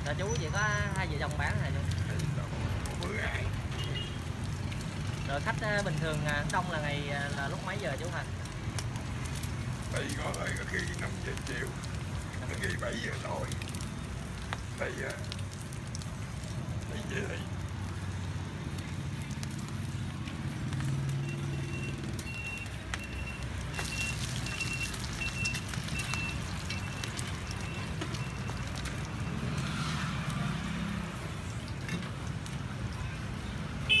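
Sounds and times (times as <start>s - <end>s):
batter sizzling in oil: 0.0s - 34.0s
street traffic hum: 0.0s - 34.0s.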